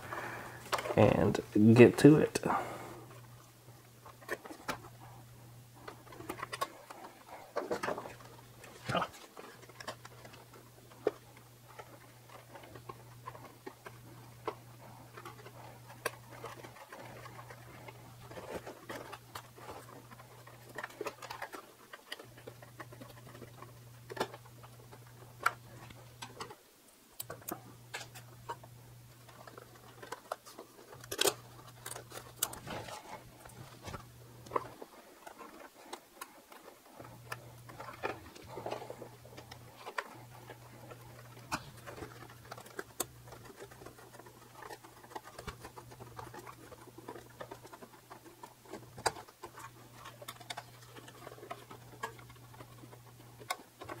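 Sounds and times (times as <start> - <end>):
steady low hum: 0.0 - 54.0
small parts clicking and tapping: 5.8 - 54.0.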